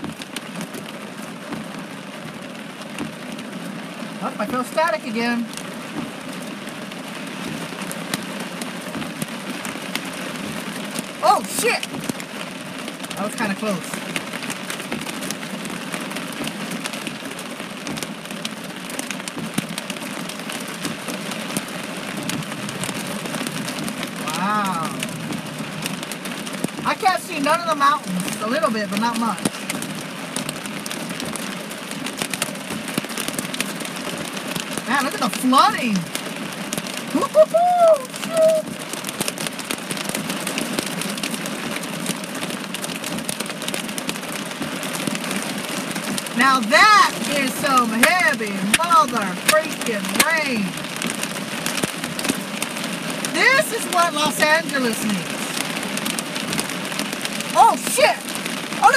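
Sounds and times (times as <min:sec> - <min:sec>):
heavy rain on car roof: 0:00.0 - 0:58.9.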